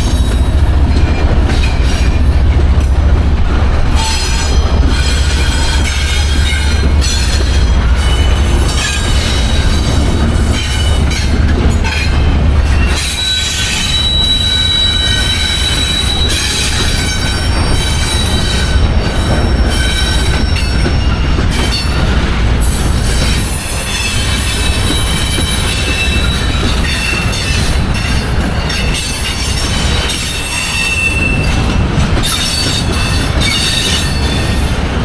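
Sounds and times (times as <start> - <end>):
train wheels squealing: 0.0 - 2.6, 4.0 - 34.9
low train rumble: 0.0 - 35.0.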